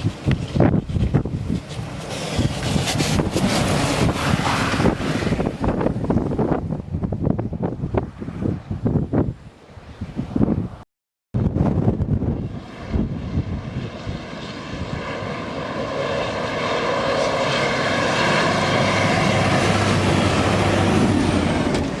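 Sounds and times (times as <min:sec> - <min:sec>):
train engine and whine: 0:00.0 - 0:07.1, 0:11.5 - 0:22.0
wind buffeting microphone: 0:00.0 - 0:10.8, 0:11.4 - 0:22.0.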